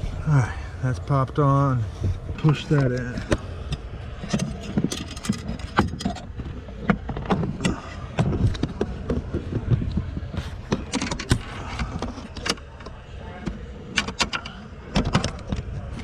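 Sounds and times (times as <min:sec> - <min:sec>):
low background rumble: 0:00.0 - 0:16.0
tools clicking and knocking: 0:02.5 - 0:15.7.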